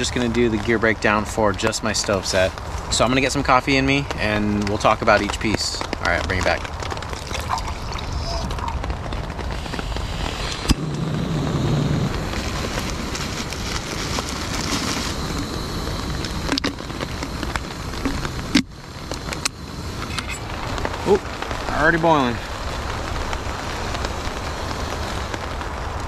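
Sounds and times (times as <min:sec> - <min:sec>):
rain on a tarp: 0:00.0 - 0:26.0.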